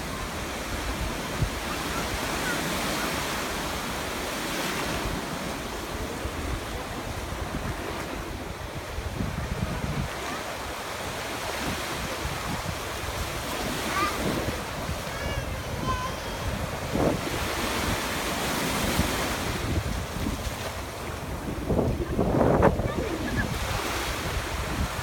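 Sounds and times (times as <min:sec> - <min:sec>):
stormy sea surf breaking: 0:00.0 - 0:25.0
wind buffeting microphone: 0:05.0 - 0:25.0.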